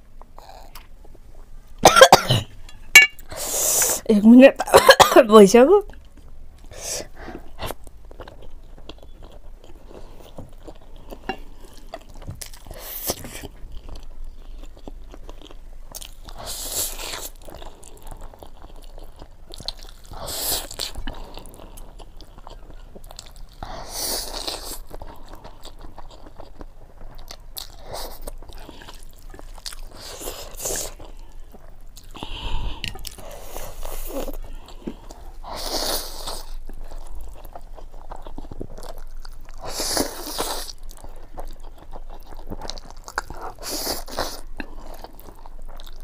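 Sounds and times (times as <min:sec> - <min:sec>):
person chewing and biting: 0:07.4 - 0:46.0.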